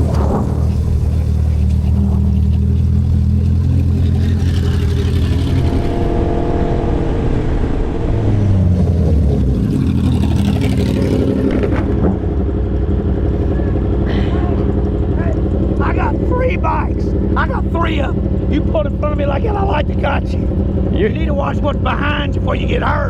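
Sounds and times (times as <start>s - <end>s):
road noise: 0.0s - 23.0s
vehicle engine running: 0.0s - 23.0s.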